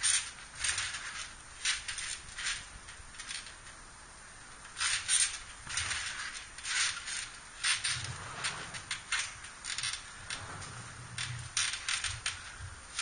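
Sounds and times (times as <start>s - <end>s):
trampoline springs bouncing: 0.0s - 13.0s.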